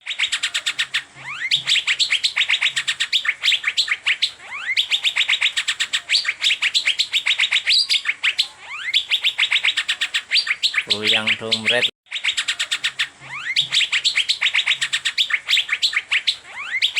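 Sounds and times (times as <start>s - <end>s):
bird chirping rapidly: 0.0s - 16.9s
bird upward-sliding whistles: 0.0s - 16.9s.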